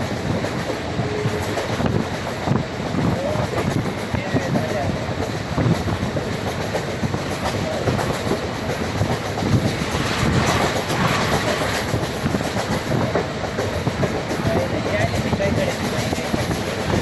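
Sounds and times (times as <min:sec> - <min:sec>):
train coaches rumbling: 0:00.0 - 0:17.0
wheels clickety-clack over rail joints: 0:00.0 - 0:17.0.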